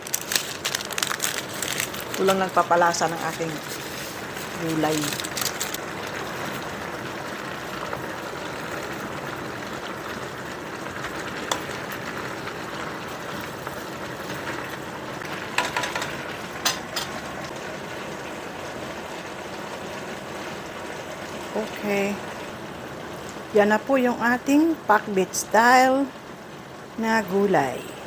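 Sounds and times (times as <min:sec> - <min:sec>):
food sizzling in a pan: 0:00.0 - 0:27.9.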